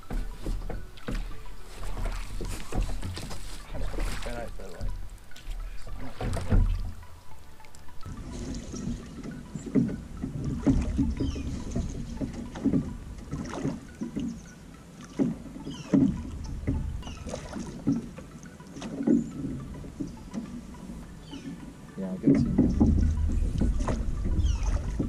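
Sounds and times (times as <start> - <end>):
low water rumble: 0.0 - 25.0
oars knocking in oarlocks: 0.0 - 25.0.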